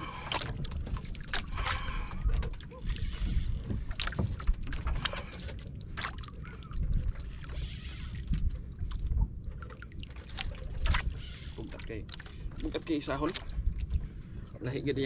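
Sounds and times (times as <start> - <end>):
water sloshing against boat hull: 0.0 - 15.0.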